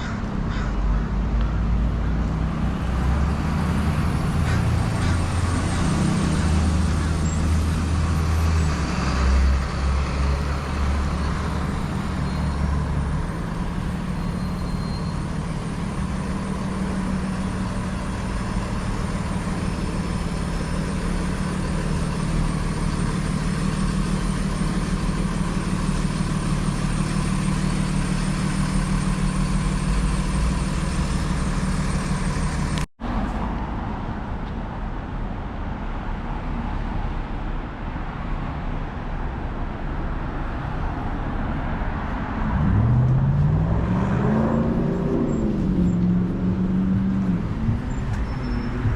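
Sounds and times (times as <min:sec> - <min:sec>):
large vehicle engine rumble: 0:00.0 - 0:48.9
street traffic: 0:00.0 - 0:48.9.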